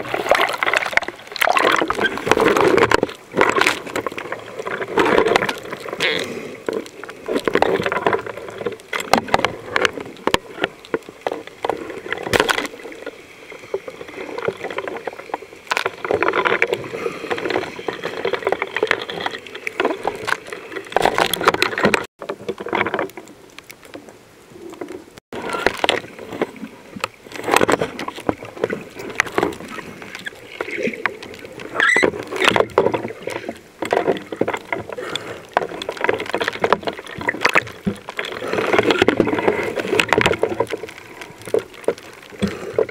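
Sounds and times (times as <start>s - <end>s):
underwater splashing and bubbling: 0.0s - 42.9s.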